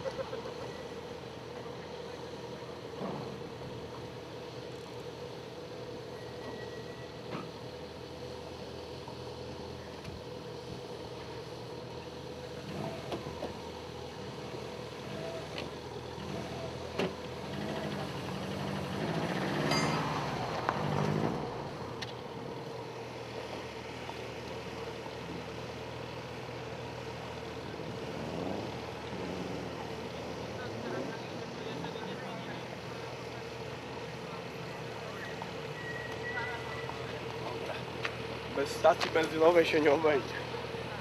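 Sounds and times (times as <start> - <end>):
rally car engines idling: 0.0 - 41.0.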